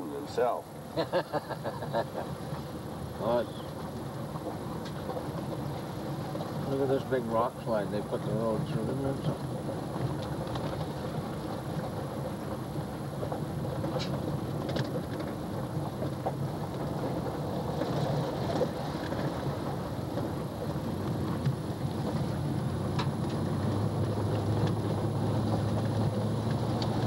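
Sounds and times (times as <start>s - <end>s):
low engine hum: 0.0s - 27.0s
truck engine and tyres rumbling: 0.0s - 27.0s.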